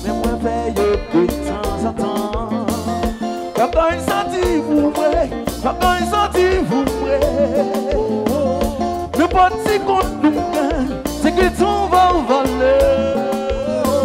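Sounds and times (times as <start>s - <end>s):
live band dance music: 0.0s - 14.0s
man singing into microphone: 0.0s - 14.0s.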